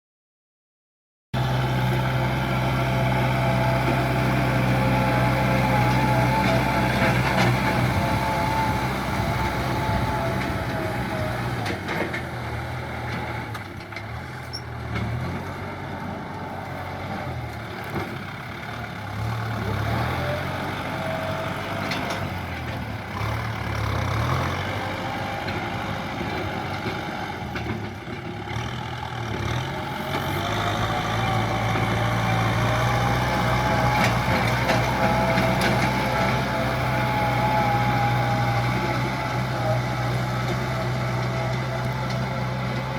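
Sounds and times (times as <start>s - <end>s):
tractor diesel engine running: 1.4s - 42.9s.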